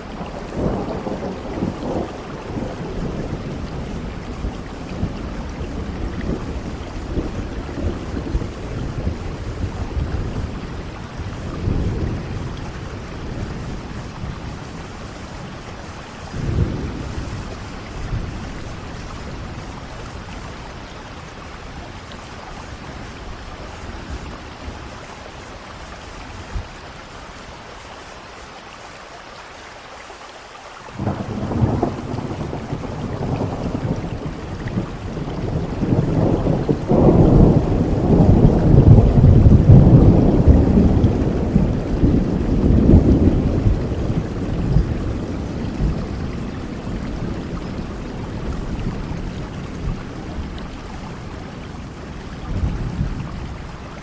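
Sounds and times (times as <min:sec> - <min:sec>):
rolling thunder: 0:00.0 - 0:25.1, 0:31.0 - 0:54.0
steady rain falling: 0:00.0 - 0:54.0.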